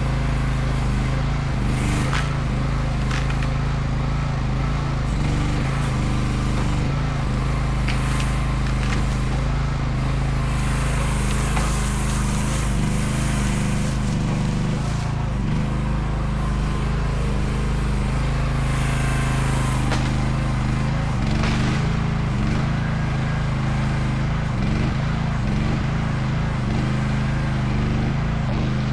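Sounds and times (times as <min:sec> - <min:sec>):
excavator engine running: 0:00.0 - 0:28.9.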